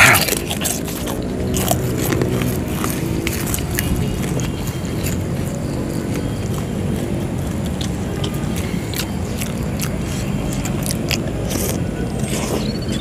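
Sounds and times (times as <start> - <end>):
people chewing and smacking: 0.0 - 13.0.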